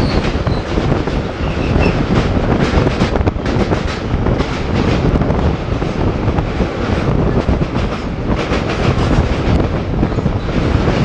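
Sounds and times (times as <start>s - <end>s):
steel wheels rumbling on rail: 0.0s - 11.0s
wind buffeting microphone: 0.0s - 11.0s.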